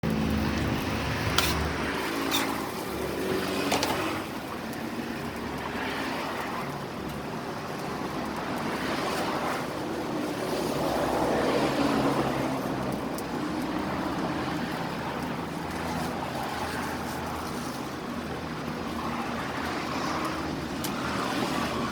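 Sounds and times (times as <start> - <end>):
road traffic noise: 0.0 - 21.9.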